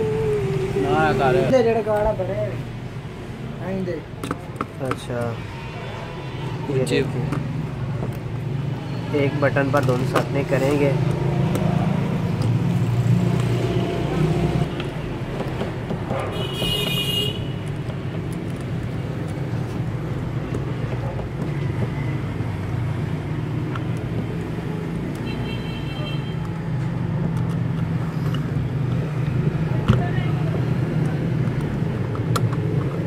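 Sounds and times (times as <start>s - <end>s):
road traffic drone: 0.0s - 33.0s.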